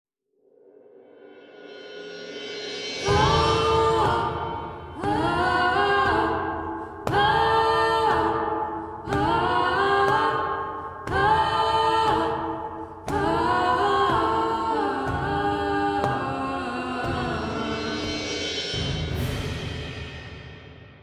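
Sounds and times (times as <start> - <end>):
wordless choir singing chords: 2.9 - 20.5.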